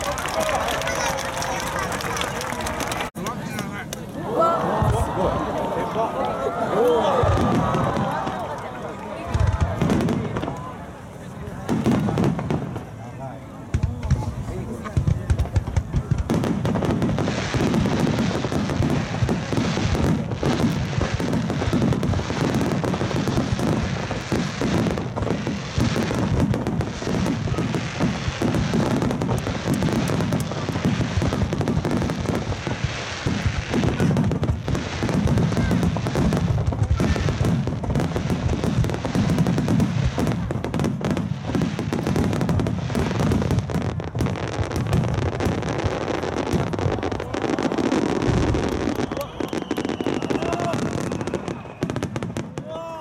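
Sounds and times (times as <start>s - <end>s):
large firework shells booming: 7.0s - 10.9s, 11.5s - 52.7s.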